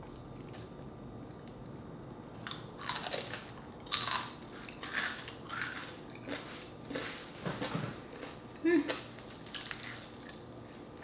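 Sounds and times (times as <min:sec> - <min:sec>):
crunching while chewing: 0:01.5 - 0:11.0.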